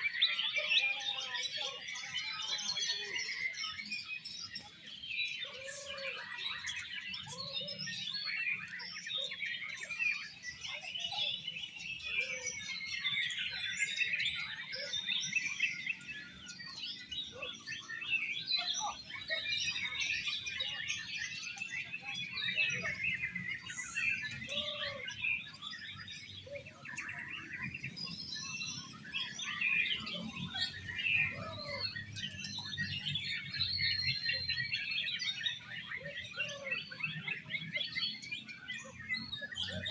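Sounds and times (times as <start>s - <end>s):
songbirds singing whistles and chatter: 0.0s - 39.9s.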